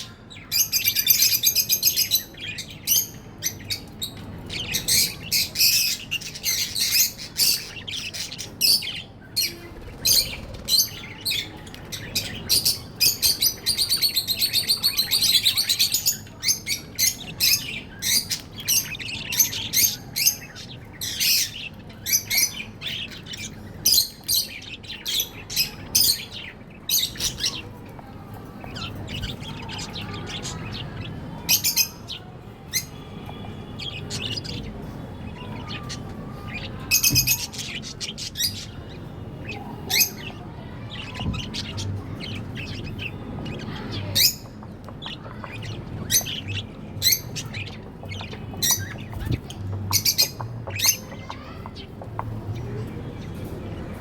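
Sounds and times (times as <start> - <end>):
continuous bird warbling: 0.0 - 54.0
budgerigars chirping: 0.4 - 52.6.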